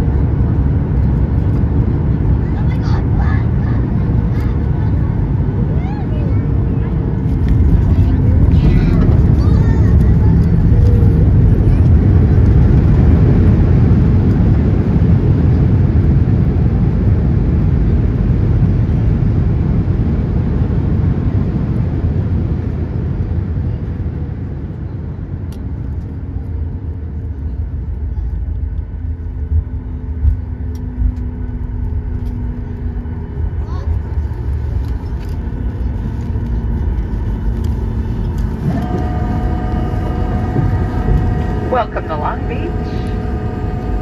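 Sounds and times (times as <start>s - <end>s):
jet engines and wheels rumbling: 0.0s - 44.0s.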